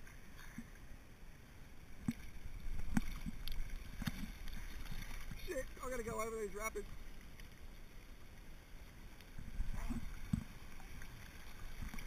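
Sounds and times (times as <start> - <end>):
river water lapping and gurgling: 0.0 - 12.0.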